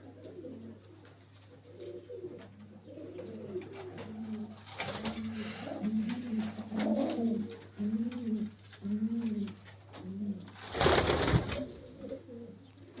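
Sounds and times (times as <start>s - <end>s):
pigeon cooing: 0.0s - 10.6s, 11.3s - 13.0s.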